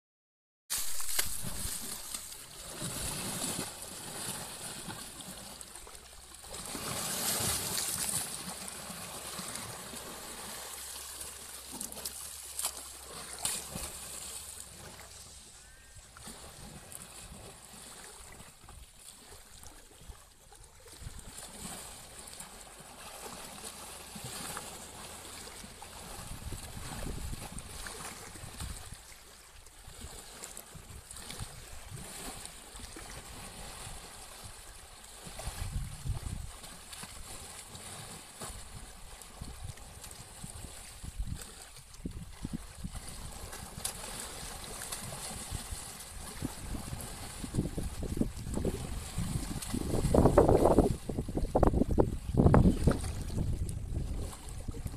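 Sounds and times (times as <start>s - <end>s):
water splashing and sloshing: 0.7s - 54.9s.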